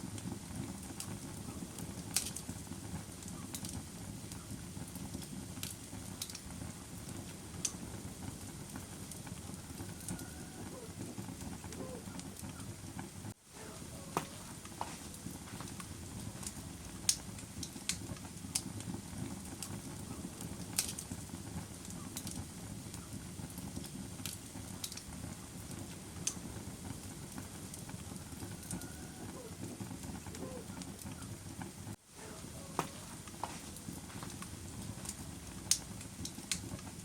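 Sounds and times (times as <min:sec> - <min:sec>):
campfire flames rumbling: 0:00.0 - 0:37.0
fire crackling and popping: 0:00.0 - 0:37.0.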